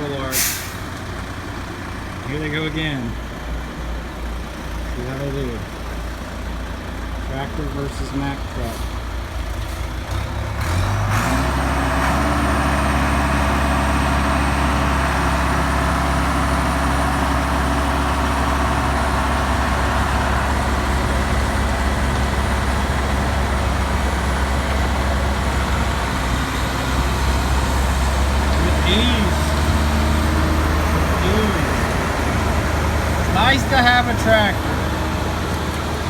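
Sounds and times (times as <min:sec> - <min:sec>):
heavy diesel engines under load: 0:00.0 - 0:36.0.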